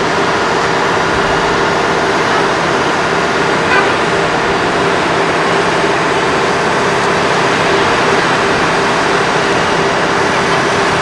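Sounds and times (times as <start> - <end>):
crane engine running: 0.0 - 11.0.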